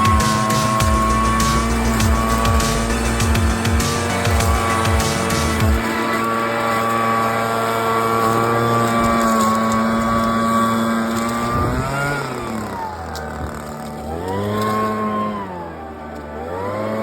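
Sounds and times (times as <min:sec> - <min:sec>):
two-stroke engine running: 0:00.0 - 0:17.0.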